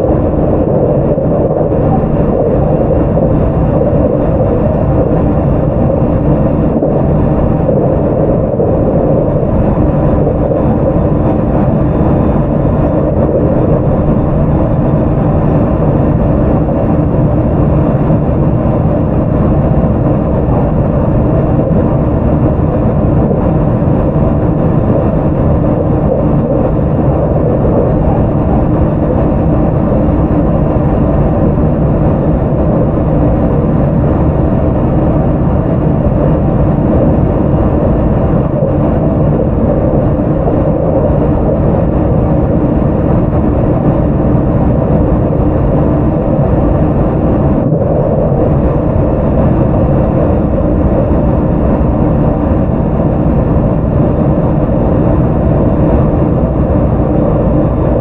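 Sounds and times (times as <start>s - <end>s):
train running noise: 0.0s - 58.0s.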